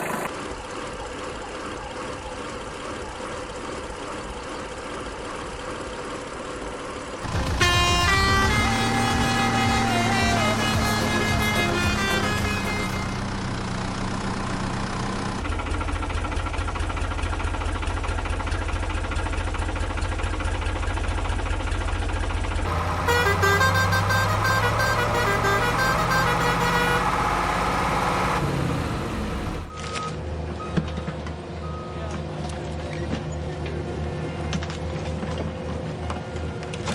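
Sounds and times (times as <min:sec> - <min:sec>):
cartoon heavy engine running: 0:00.0 - 0:29.7.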